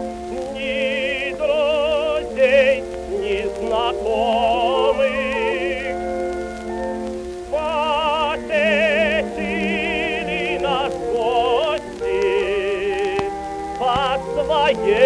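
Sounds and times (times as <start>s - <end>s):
male tenor singing: 0.0s - 6.9s, 7.5s - 15.0s
instrumental accompaniment: 0.0s - 15.0s
surface hiss and clicks: 1.6s - 14.7s.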